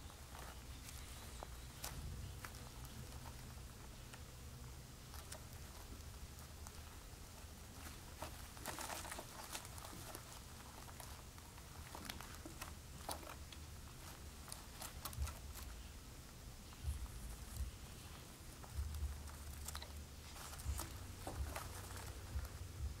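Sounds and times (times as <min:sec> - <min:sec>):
birds rustling at nest: 0:00.0 - 0:23.0
low steady hum: 0:00.0 - 0:23.0.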